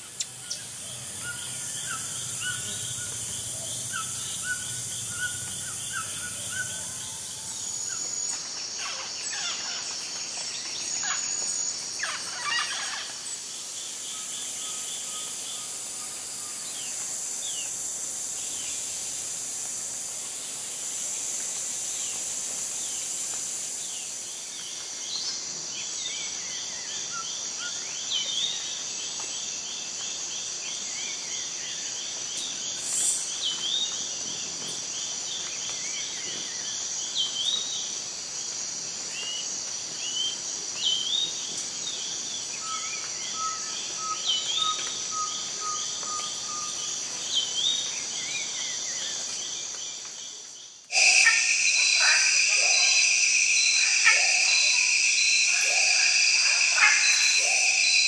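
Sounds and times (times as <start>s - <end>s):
high-pitched insect drone: 0.0s - 50.2s, 50.9s - 58.0s.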